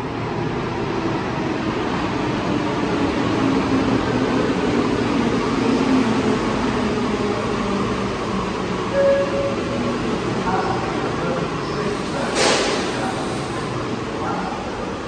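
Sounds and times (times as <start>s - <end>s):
metro train running: 0.0s - 15.0s.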